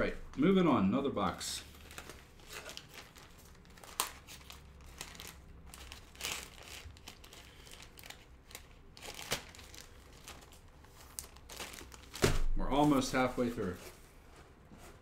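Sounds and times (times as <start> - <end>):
packaging crinkling and rustling: 1.6 - 13.9.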